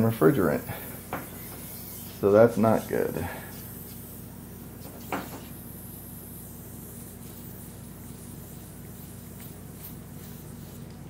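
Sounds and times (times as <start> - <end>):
faint hiss of leaking gas: 0.0 - 11.0.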